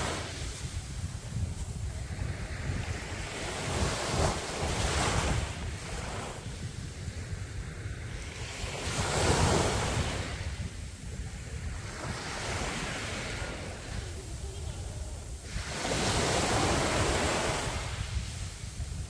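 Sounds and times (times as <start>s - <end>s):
sea waves washing onto beach: 0.0s - 19.0s
wind rumbling on microphone: 0.0s - 19.0s.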